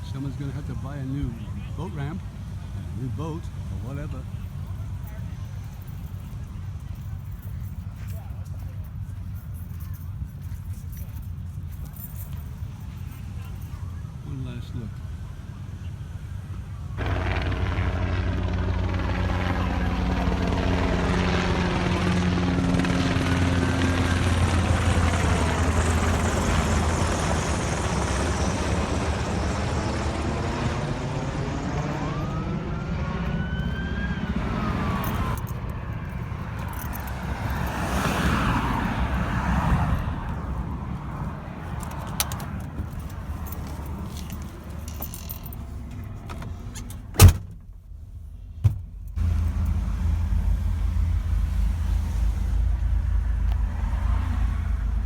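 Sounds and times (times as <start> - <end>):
vehicle engine drone: 0.0 - 55.0.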